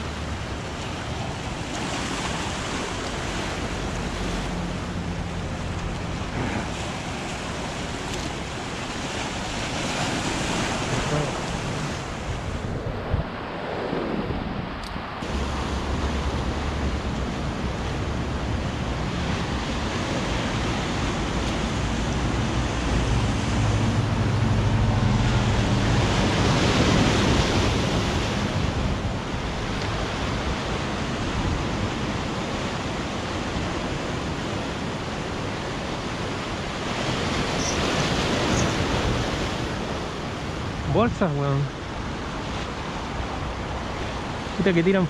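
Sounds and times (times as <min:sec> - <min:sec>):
sea waves against rocks: 0:00.0 - 0:13.6, 0:14.2 - 0:45.0
wind on microphone: 0:00.0 - 0:41.1.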